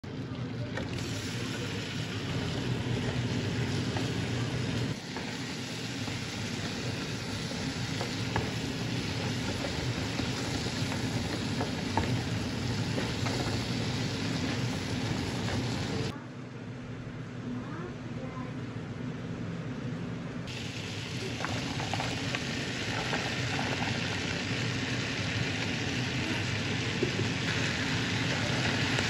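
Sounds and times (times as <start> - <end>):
chicken sizzling in a pan: 0.1 - 16.1, 20.5 - 29.0.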